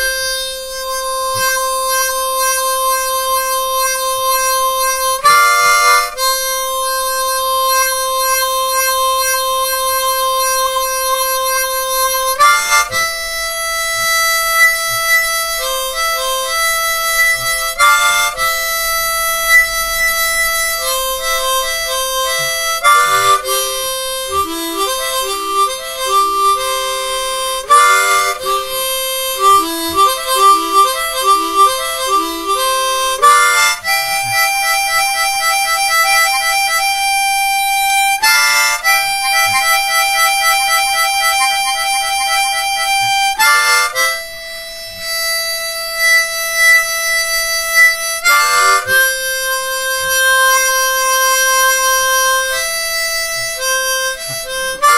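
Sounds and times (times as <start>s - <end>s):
harmonica playing slow tune: 0.0s - 54.9s.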